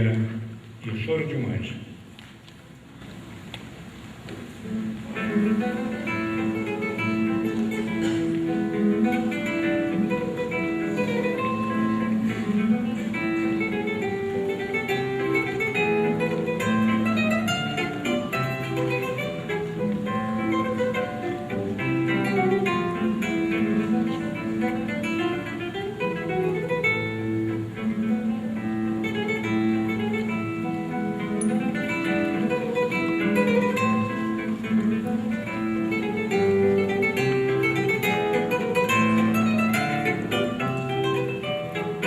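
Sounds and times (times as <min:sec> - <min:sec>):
acoustic guitar playing: 0:03.3 - 0:42.0.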